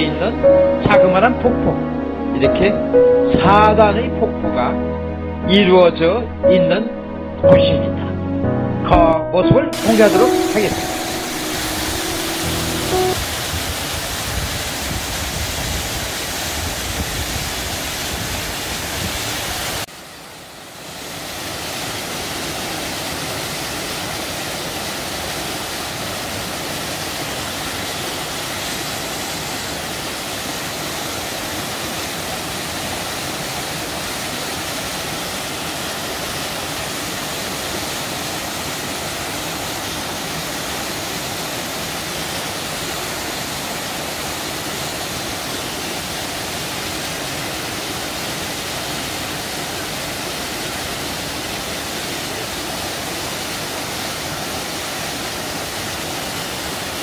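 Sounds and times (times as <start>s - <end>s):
waterfall rushing: 9.7s - 57.0s.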